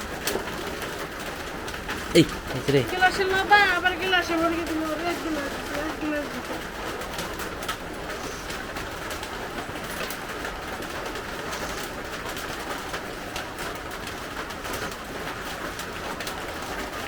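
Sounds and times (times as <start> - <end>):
ticks of raindrops: 0.0 - 17.0.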